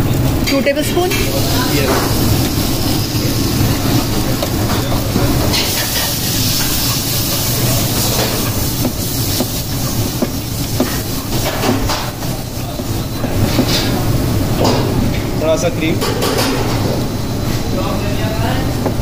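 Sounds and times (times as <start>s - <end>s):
food sizzling in a pan: 0.0s - 15.9s
low kitchen rumble: 0.0s - 19.0s.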